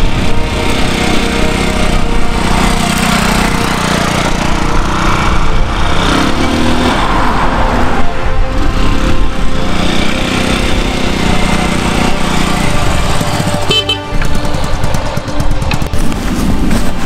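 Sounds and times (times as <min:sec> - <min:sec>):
small motorbike engine running: 0:00.0 - 0:17.0.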